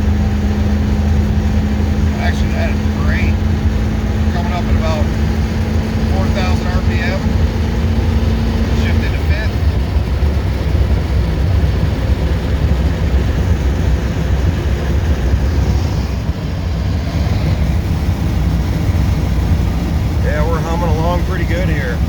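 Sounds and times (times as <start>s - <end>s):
road noise: 0.0s - 22.0s
truck engine rumbling: 0.0s - 22.0s.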